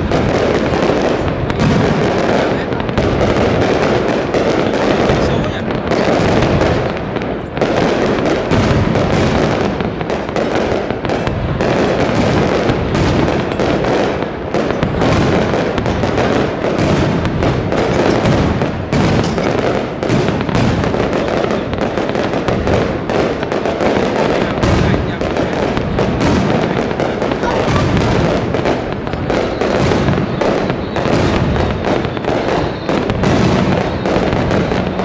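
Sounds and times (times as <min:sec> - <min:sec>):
fireworks bursting bangs: 0:00.0 - 0:35.0.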